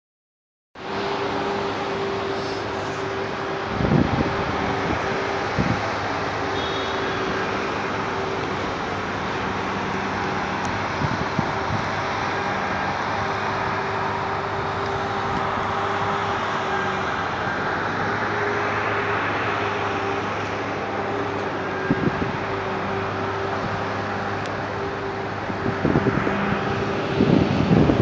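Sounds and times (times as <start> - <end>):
engine running hum: 0.8 - 28.0.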